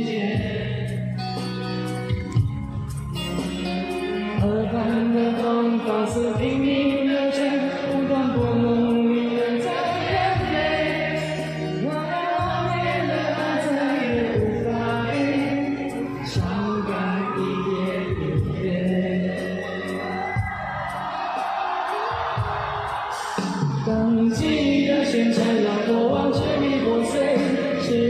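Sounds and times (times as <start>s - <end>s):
man singing pop ballad: 0.0s - 1.6s, 4.2s - 20.3s, 23.1s - 28.0s
live band playing: 0.0s - 28.0s.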